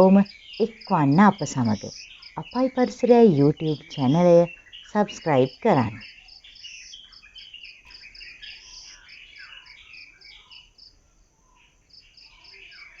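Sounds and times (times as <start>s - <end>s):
birds chirping: 0.0s - 13.0s
cricket chirping: 0.0s - 13.0s.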